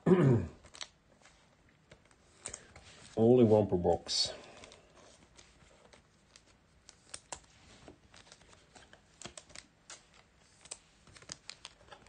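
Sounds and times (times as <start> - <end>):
trading cards and plastic sleeve handled: 0.6 - 12.0.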